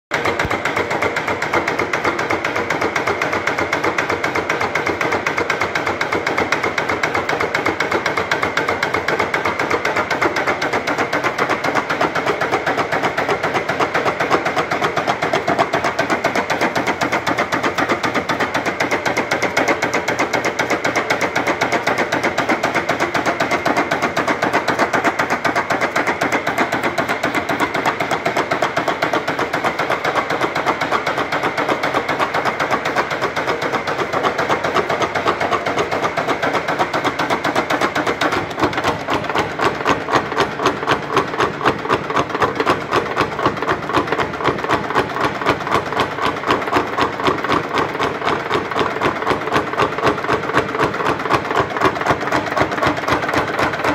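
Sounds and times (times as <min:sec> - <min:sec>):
power hammer striking rapidly: 0:00.2 - 0:53.9.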